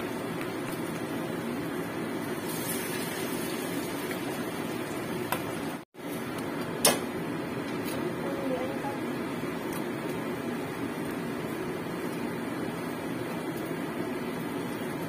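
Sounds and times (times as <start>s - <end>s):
frying in hot oil sizzling: 0.0s - 15.0s.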